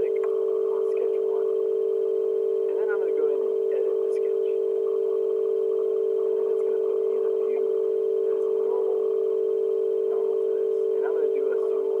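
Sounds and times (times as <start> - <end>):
steady electronic tone: 0.0 - 12.0.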